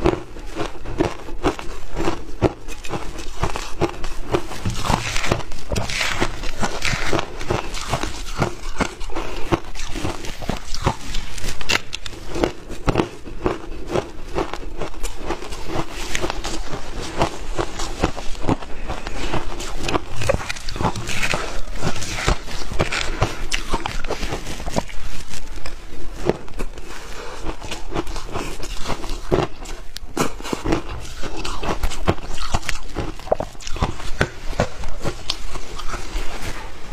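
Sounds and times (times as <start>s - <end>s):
crunchy ice being chewed: 0.0s - 36.9s.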